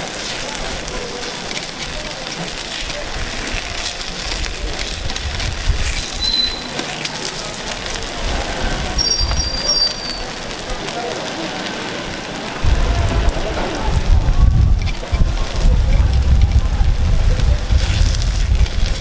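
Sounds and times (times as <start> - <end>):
batter sizzling on a griddle: 0.0 - 19.0.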